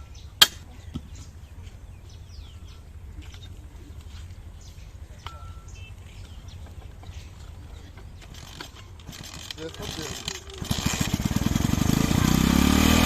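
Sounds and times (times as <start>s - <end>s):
steady low hum: 0.0s - 12.6s
birds chirping: 0.0s - 13.0s.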